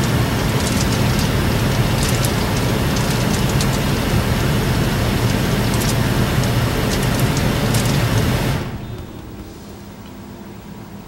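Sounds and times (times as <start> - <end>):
engine idling: 0.0 - 9.9.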